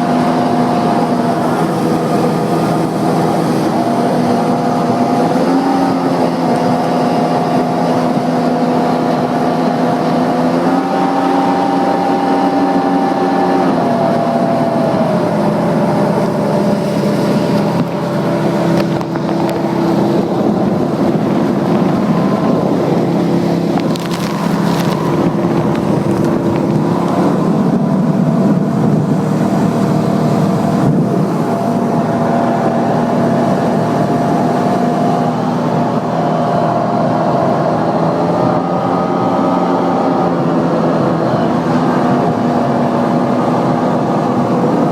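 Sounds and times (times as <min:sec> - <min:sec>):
jet ski engine running: 0:00.0 - 0:44.9
water rushing: 0:00.0 - 0:44.9.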